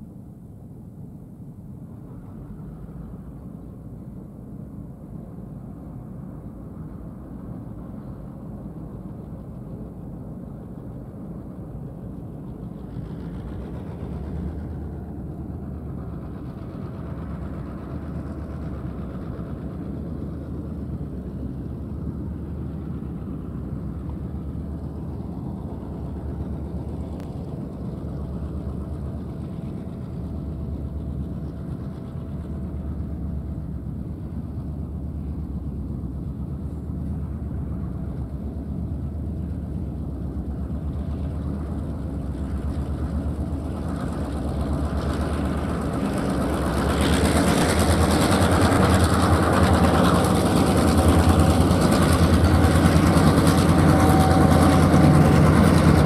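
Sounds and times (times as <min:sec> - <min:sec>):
diesel locomotive engine: 0:00.0 - 0:56.0
rolling noise of train wagons: 0:01.7 - 0:56.0.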